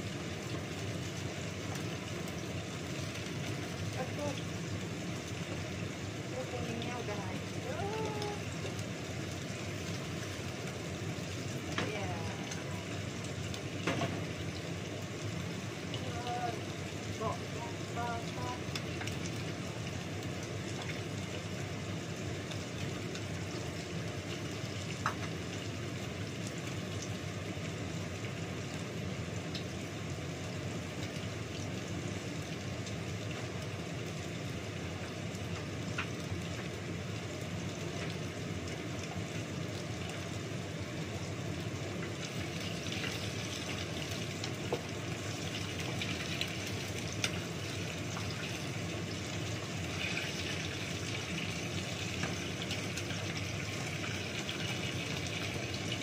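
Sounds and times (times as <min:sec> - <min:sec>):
cooking hiss: 0:00.0 - 0:56.0.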